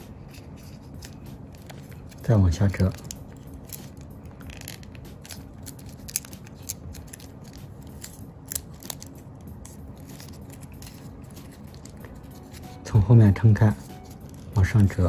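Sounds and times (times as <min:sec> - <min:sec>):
paper being folded and creased: 0:00.0 - 0:15.0.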